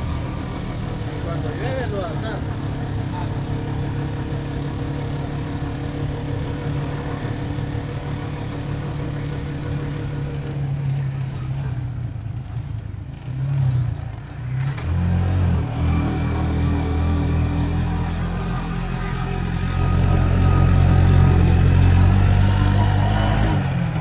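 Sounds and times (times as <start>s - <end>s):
motorcycle engine running: 0.0s - 15.0s, 15.6s - 24.0s
road noise: 0.0s - 24.0s
wind: 0.0s - 24.0s.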